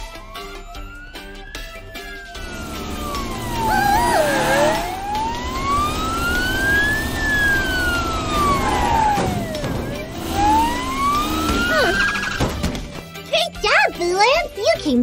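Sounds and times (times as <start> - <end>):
siren wailing: 0.0 - 12.6.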